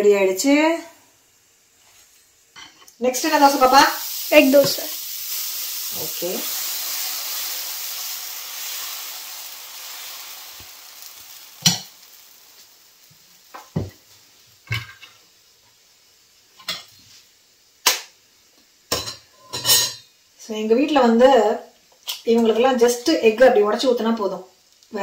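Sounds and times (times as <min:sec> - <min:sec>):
sizzling on hot pan: 0:00.0 - 0:25.0.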